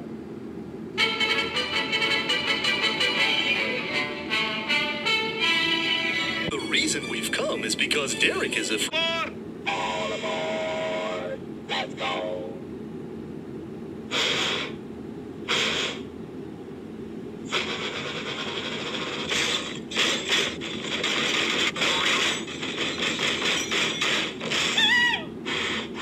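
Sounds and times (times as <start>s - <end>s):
cartoon steam locomotive chuffing: 1.0s - 12.4s, 14.1s - 14.8s, 15.4s - 16.1s, 17.4s - 26.0s.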